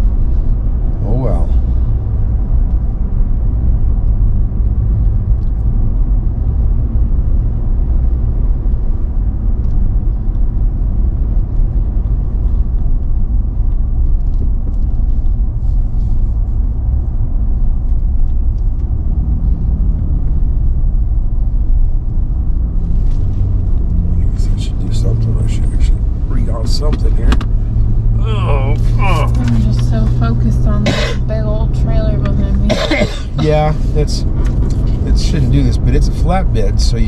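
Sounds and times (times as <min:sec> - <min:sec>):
road and wind rumble: 0:00.0 - 0:37.0.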